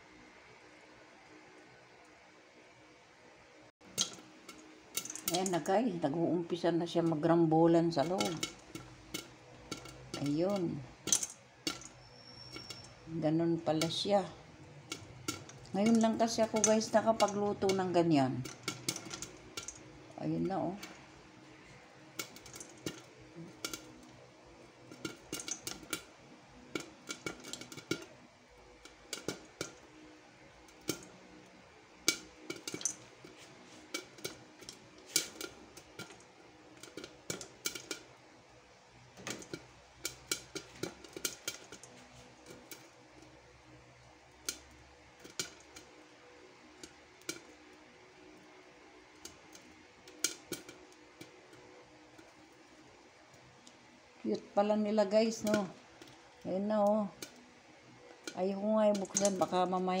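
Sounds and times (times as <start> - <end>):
popcorn popping in a covered pot: 3.8 - 60.0.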